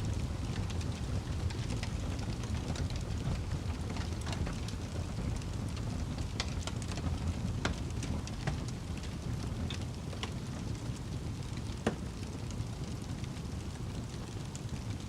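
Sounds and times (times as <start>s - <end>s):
fire crackles and pops: 0.0s - 15.0s
fire rumbling: 0.0s - 15.0s.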